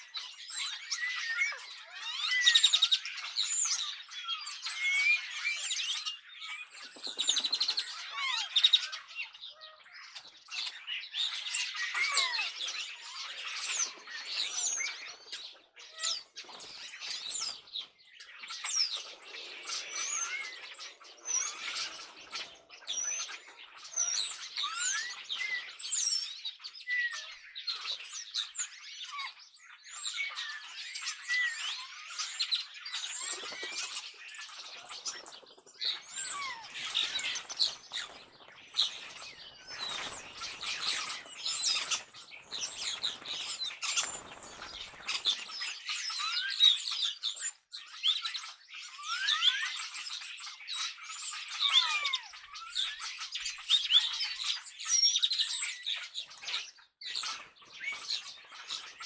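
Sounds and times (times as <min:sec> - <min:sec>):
starlings chattering: 0:00.0 - 0:48.7.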